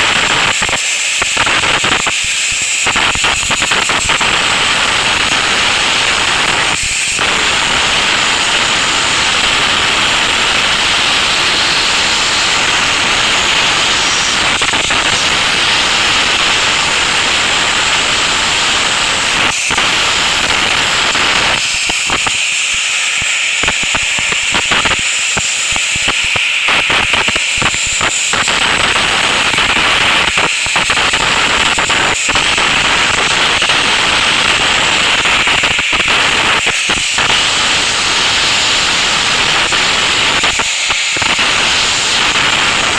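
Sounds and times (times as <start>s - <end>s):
blasting nozzle hissing: 0.0s - 42.9s.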